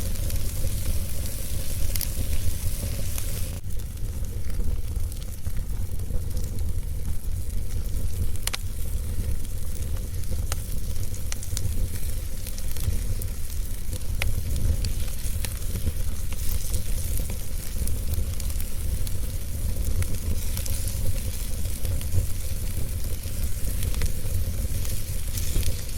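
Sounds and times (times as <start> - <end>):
fire crackling and popping: 0.0 - 25.9.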